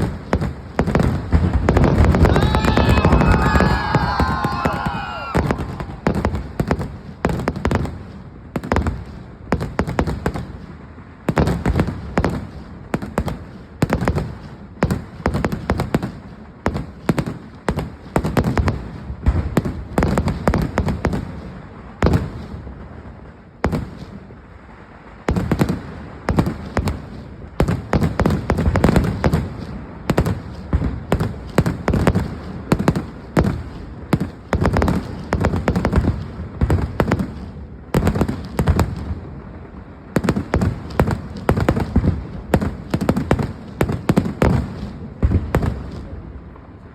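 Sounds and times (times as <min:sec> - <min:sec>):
firecracker bangs: 0:00.0 - 0:46.4
fireworks crackle: 0:00.0 - 0:46.9.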